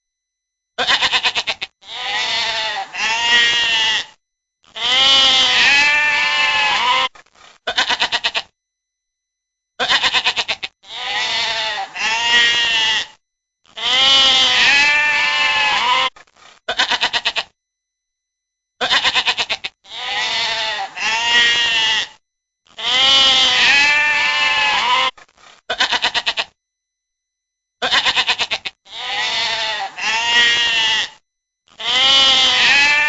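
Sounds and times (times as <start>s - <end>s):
sheep bleating: 0.8s - 7.1s, 7.7s - 8.5s, 9.8s - 17.5s, 18.8s - 26.5s, 27.8s - 33.0s.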